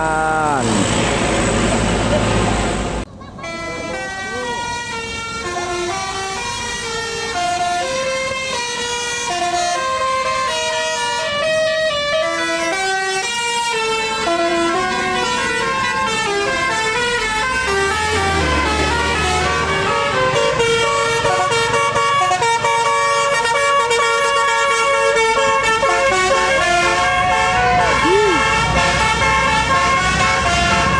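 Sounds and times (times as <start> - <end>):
bus engine rumbling: 0.0 - 30.9
bus horn playing a melody: 3.1 - 30.9.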